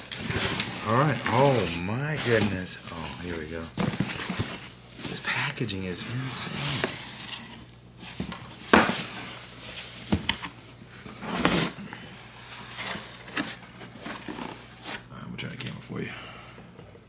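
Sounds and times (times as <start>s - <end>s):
cardboard box being opened: 0.1s - 11.8s, 12.4s - 15.0s.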